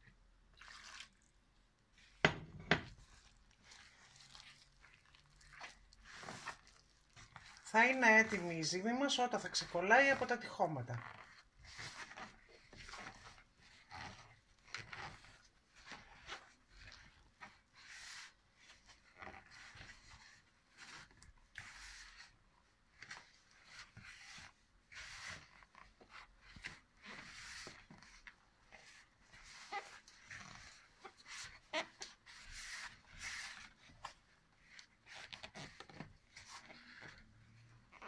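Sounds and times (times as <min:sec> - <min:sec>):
hand kneading sticky dough: 0:00.0 - 0:38.0.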